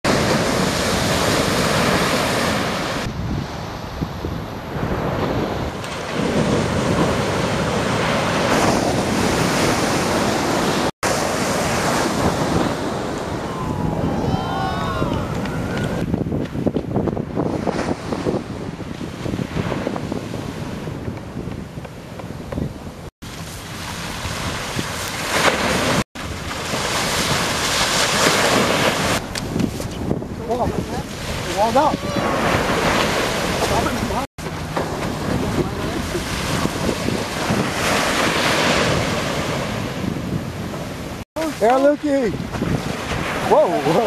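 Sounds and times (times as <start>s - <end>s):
ocean surf breaking: 0.0s - 44.0s
wind buffeting microphone: 0.1s - 44.0s.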